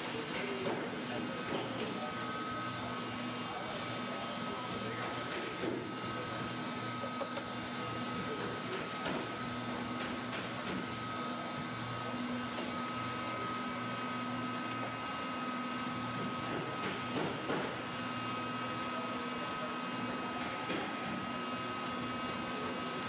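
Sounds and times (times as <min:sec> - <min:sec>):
hot-air welder blower whining: 0:00.0 - 0:23.0.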